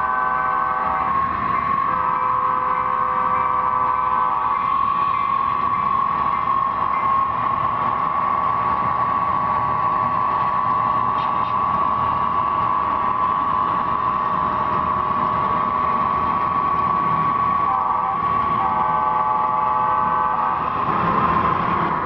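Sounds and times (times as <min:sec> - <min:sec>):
constant high tone: 0:00.0 - 0:22.0
model train running: 0:00.0 - 0:22.0.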